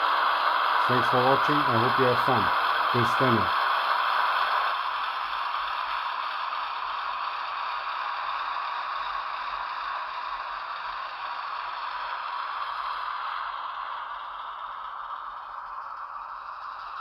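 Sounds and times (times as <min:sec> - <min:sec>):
model locomotive diesel idle hum: 0:00.0 - 0:17.0.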